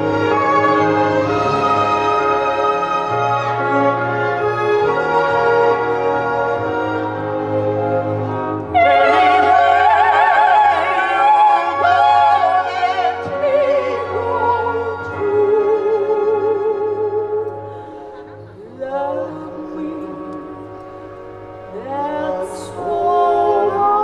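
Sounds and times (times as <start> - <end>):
operatic singing with vibrato: 0.0 - 24.0
orchestral accompaniment: 0.0 - 24.0.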